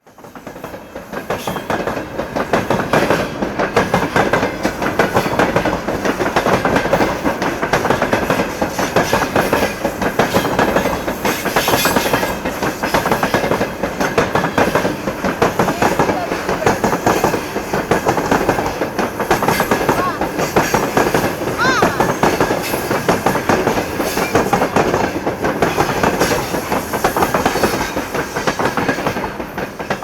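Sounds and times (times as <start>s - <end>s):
train wheels clattering over rails: 0.0s - 30.0s.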